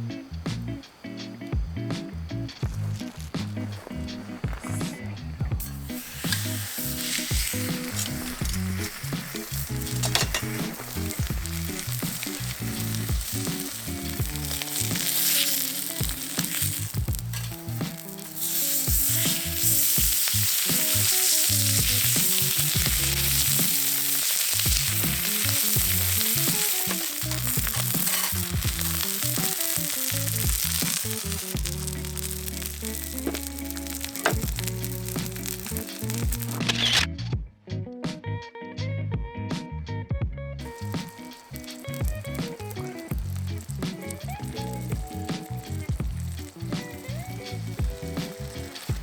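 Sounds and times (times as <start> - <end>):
food sizzling in a pan: 2.1 - 37.0, 40.6 - 49.0.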